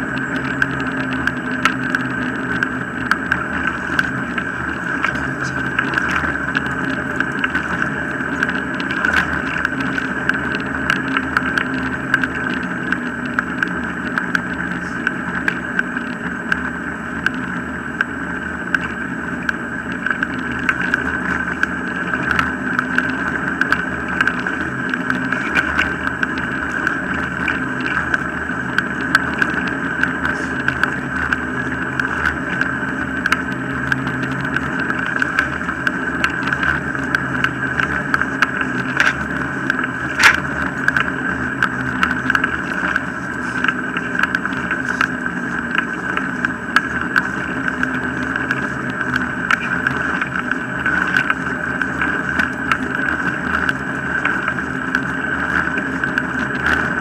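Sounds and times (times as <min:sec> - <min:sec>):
rig rattling and clicking: 0:00.0 - 0:57.0
wheels rolling on tarmac: 0:00.0 - 0:57.0.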